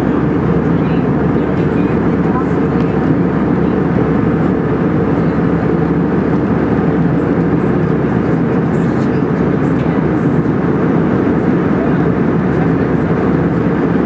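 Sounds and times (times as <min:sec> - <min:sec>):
airliner cabin engine rush: 0:00.0 - 0:14.0.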